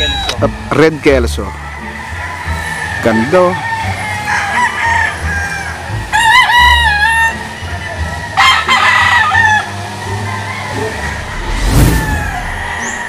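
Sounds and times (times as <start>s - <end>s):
rooster crowing: 1.6s - 13.0s.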